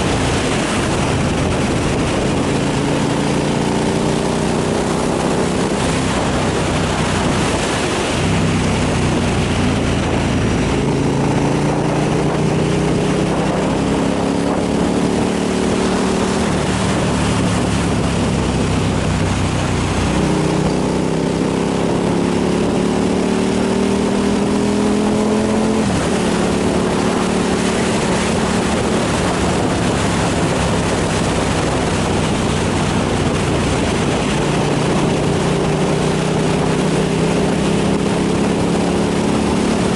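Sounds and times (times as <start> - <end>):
motorcycle engine shifting gears: 0.0 - 39.9
wind over microphone: 0.0 - 39.9.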